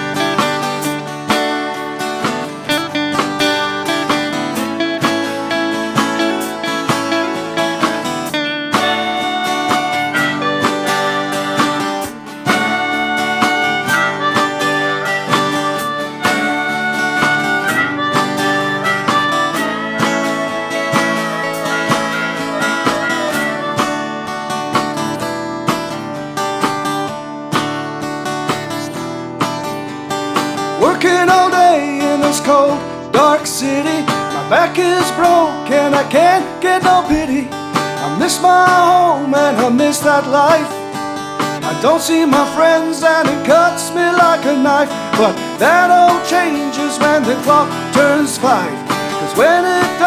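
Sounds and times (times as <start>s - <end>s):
held lead melody notes: 0.0s - 50.0s
strummed acoustic guitar: 0.0s - 50.0s.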